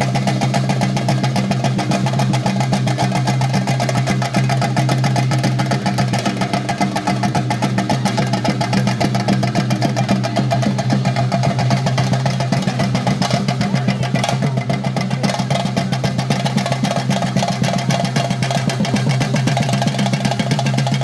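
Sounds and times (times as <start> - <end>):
drums beaten in fast roll: 0.0 - 21.0.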